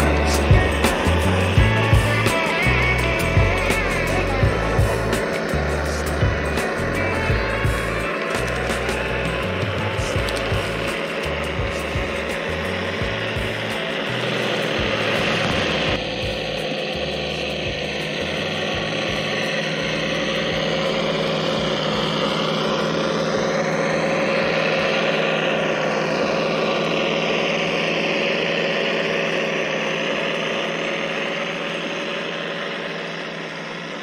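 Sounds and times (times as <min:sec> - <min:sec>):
electric motor and gears whining: 0:00.0 - 0:34.0
simulated truck engine sound: 0:00.0 - 0:34.0.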